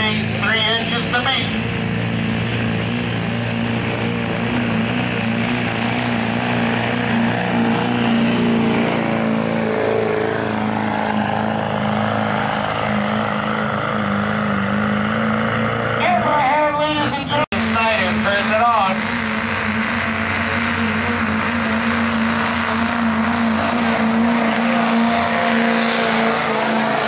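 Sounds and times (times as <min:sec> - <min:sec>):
truck engine at high revs: 0:00.0 - 0:27.0.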